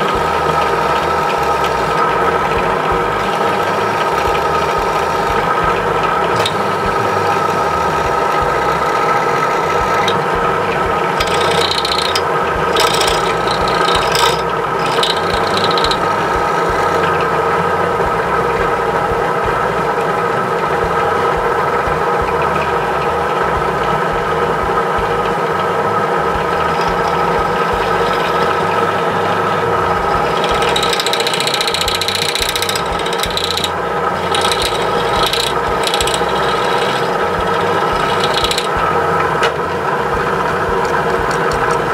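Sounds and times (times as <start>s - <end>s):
scratchy metal cutting: 0.0s - 18.7s, 26.2s - 41.9s
drill press motor whining: 0.0s - 18.8s, 26.2s - 41.9s.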